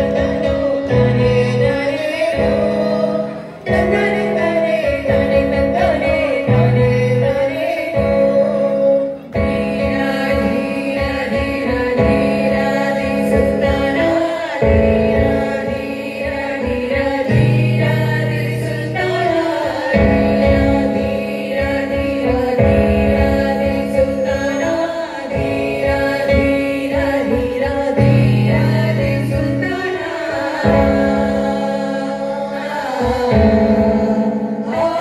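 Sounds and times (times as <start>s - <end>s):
electronic keyboard accompaniment: 0.0s - 35.0s
group of women singing: 0.0s - 35.0s.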